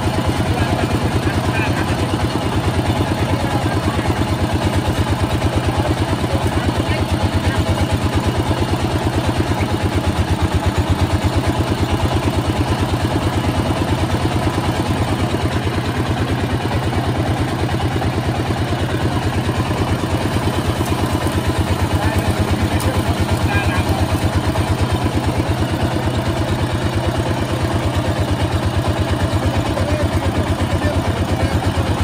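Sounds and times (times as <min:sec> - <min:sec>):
small engine running steadily: 0:00.0 - 0:32.0.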